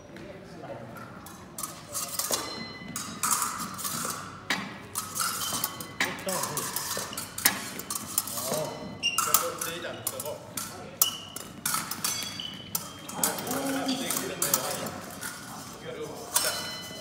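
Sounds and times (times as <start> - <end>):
fencing blades clashing: 0.9 - 17.0.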